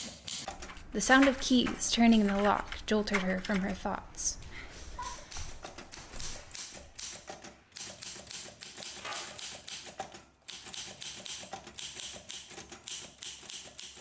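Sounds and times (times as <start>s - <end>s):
typewriter keys clattering: 0.0s - 14.0s.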